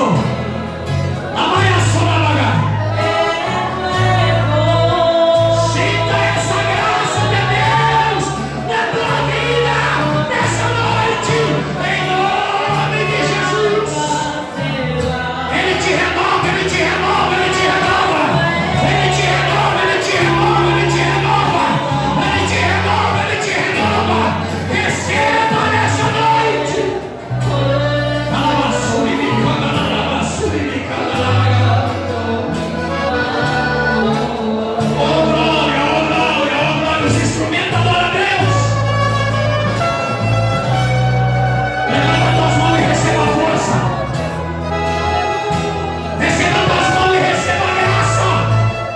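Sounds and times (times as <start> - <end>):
congregation singing with band: 0.0 - 48.9.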